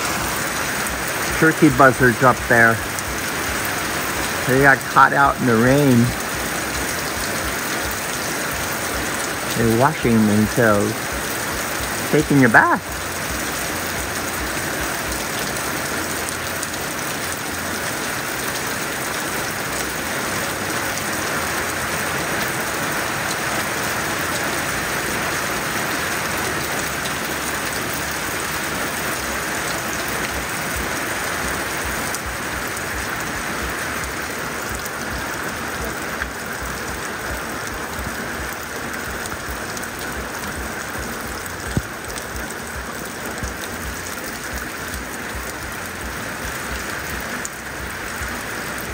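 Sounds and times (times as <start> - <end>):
heavy rain hissing: 0.0 - 48.9.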